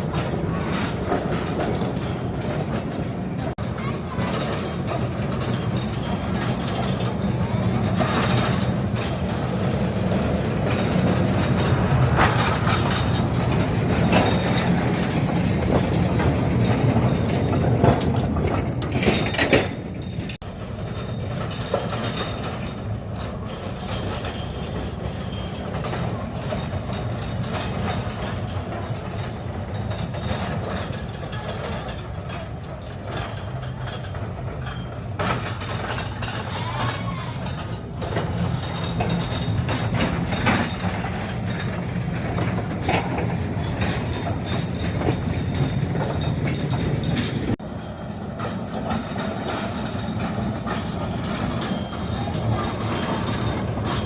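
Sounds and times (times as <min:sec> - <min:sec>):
locomotive motor and gear hum: 0:00.0 - 0:54.0
wheels clicking on rails: 0:00.0 - 0:54.0.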